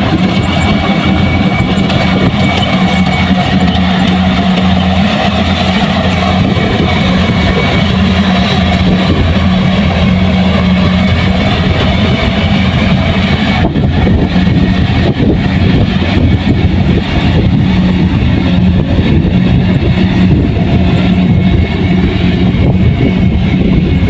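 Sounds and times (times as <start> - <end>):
combine harvester engine drone: 0.0 - 24.0.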